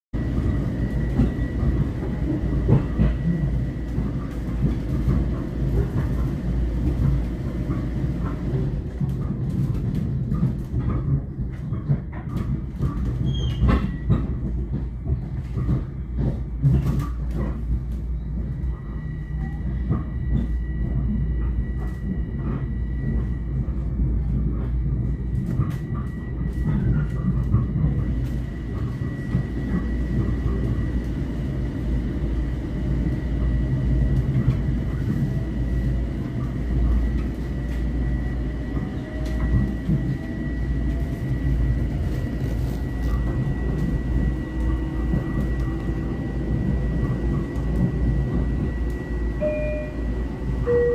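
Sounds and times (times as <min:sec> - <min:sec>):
train wheels rumbling on rail: 0:00.1 - 0:50.9.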